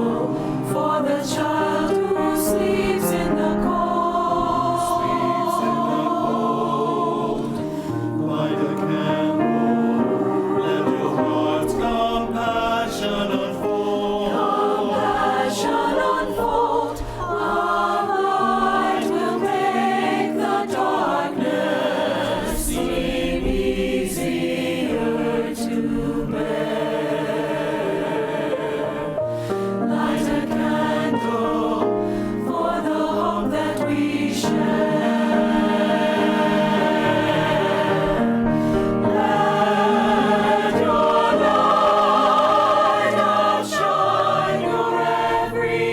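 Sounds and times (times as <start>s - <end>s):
choir singing with accompaniment: 0.0s - 45.9s.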